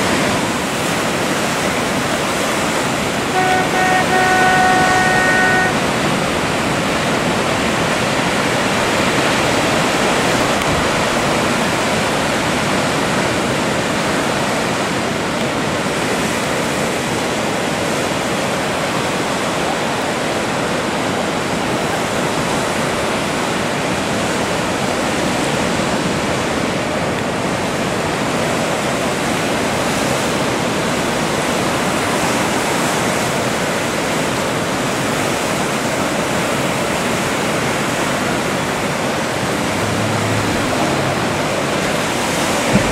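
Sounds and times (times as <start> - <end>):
waves breaking: 0.0 - 42.9.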